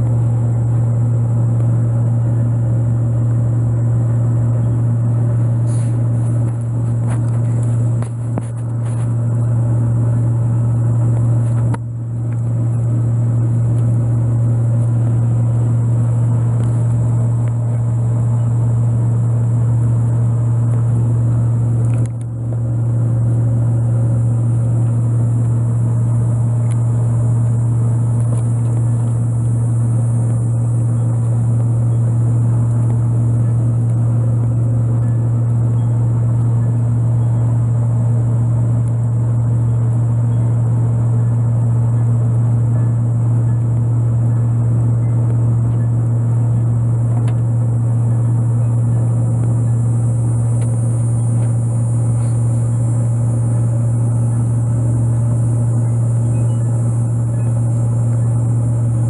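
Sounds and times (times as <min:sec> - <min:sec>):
loud low hum: 0:00.0 - 0:59.0.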